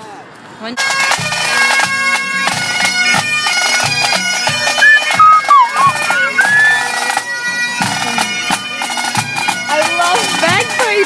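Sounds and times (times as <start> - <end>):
bagpipes playing melody: 0.8 - 11.0.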